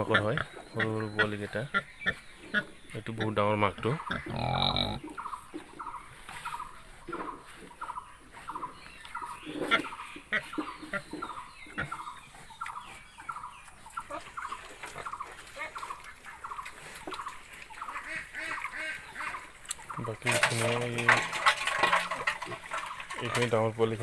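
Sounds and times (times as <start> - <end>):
farm animals calling: 0.0 - 24.0.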